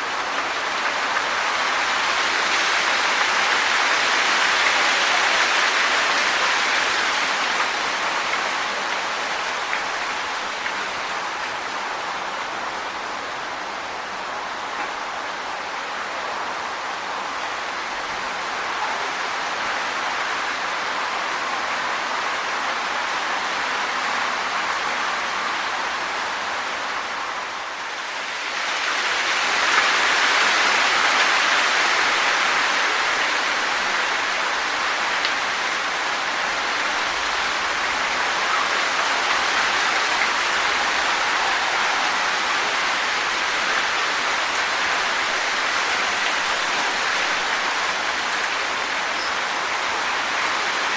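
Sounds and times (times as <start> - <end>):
wind rustling tree leaves: 0.0 - 50.9.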